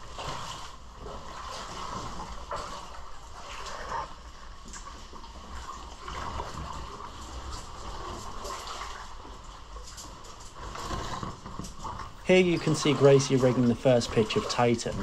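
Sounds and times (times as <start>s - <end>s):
water sloshing from wading: 0.0s - 15.0s.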